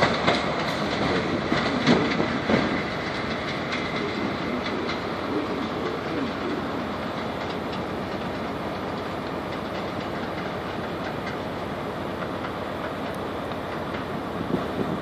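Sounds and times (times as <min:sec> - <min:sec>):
diesel train rumble: 0:00.0 - 0:15.0
wheels clicking over rail joints: 0:00.0 - 0:15.0.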